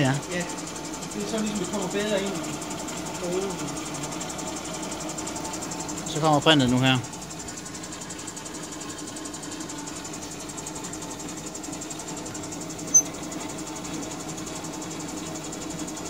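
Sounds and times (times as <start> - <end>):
soldering machine humming: 0.0 - 16.0.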